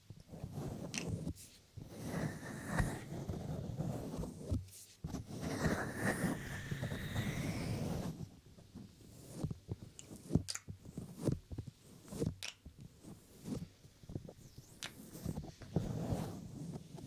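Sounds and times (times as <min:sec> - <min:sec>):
soft strokes and taps: 0:00.0 - 0:17.0
rubbing against microphone: 0:00.2 - 0:17.0.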